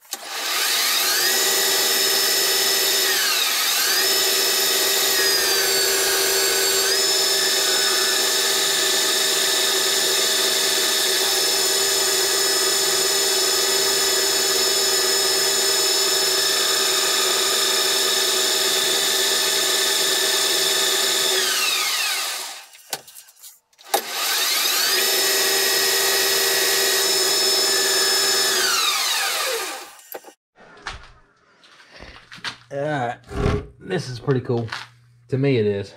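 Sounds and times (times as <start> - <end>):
metal lathe whining: 0.0 - 22.7, 23.9 - 30.3.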